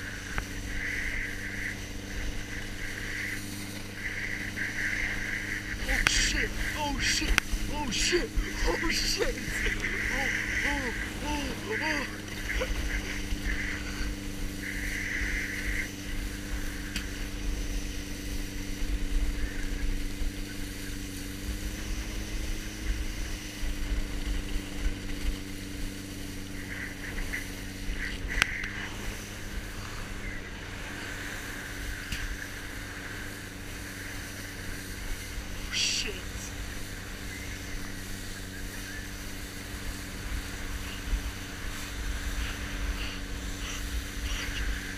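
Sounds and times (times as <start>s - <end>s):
motorboat engine hum: 0.0s - 44.9s
wind rumble on microphone: 0.0s - 44.9s.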